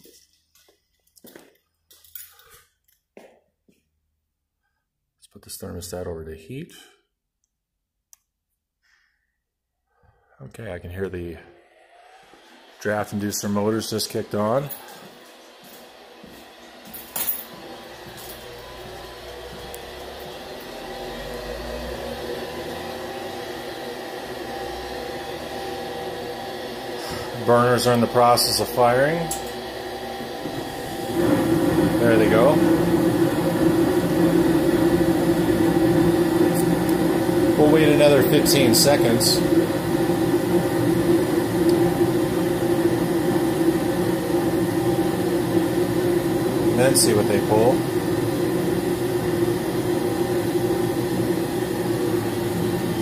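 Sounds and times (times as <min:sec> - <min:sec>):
furnace draft inducer motors humming: 0:10.1 - 0:53.0.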